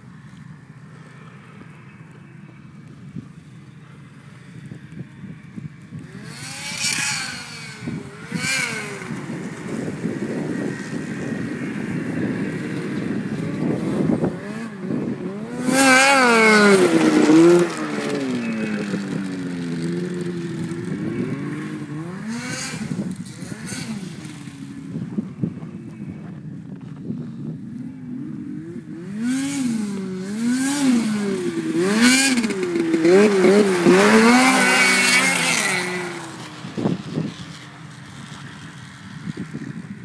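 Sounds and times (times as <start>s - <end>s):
snowmobile engine revving: 6.0s - 26.3s, 28.0s - 40.0s.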